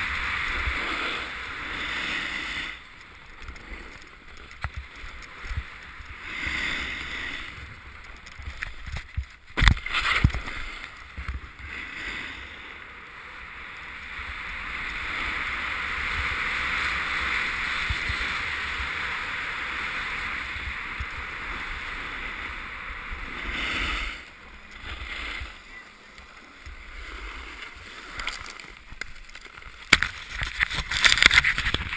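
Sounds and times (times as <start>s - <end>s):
skis sliding over packed snow: 0.0s - 31.9s.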